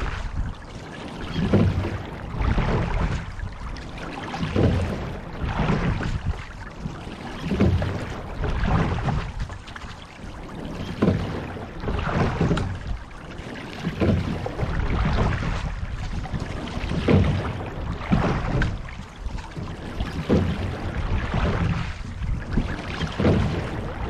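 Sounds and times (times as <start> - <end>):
oars knocking and splashing: 0.0 - 24.0
water rushing along hull: 0.0 - 24.0.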